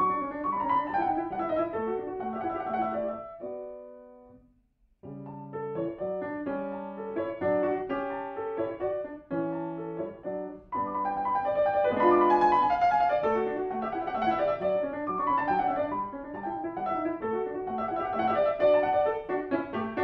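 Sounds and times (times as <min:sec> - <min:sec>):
grand piano playing: 0:00.0 - 0:04.2, 0:05.1 - 0:20.0.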